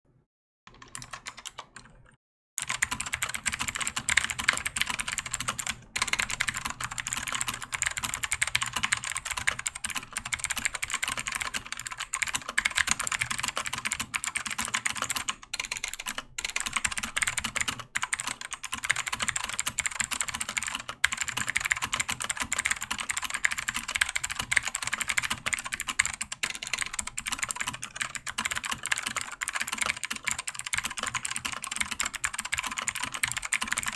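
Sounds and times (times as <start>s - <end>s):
fast keyboard typing: 0.7s - 33.9s.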